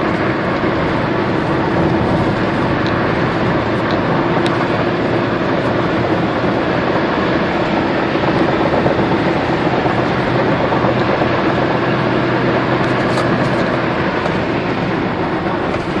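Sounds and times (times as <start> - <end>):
diesel engine running at speed: 0.0 - 16.0
tyre and road noise: 0.0 - 16.0.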